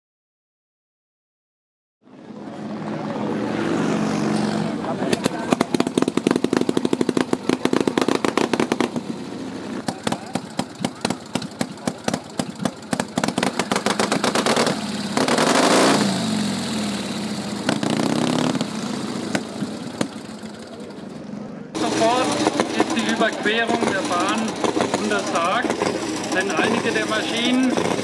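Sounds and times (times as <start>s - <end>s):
motorcycle engine popping and idling: 4.3s - 28.0s.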